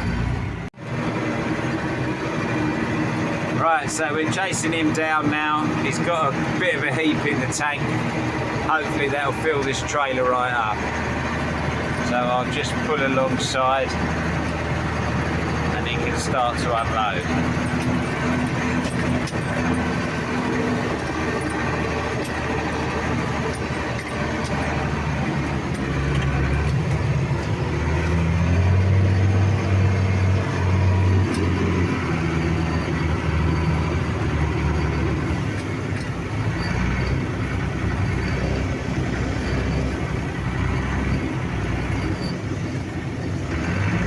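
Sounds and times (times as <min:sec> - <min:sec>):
combine harvester engine running: 0:00.0 - 0:44.0
tractor engine running: 0:00.0 - 0:44.0.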